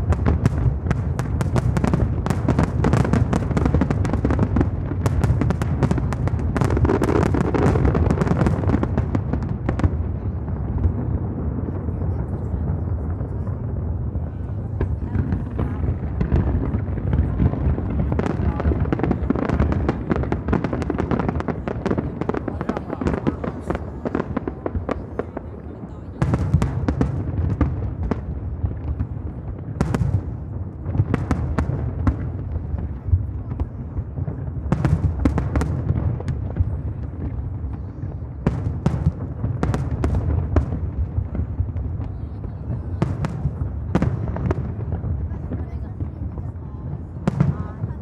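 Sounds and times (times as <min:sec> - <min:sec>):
deep rumble of booms: 0:00.0 - 0:25.6, 0:26.2 - 0:48.0
fireworks bursting and crackling: 0:00.0 - 0:48.0.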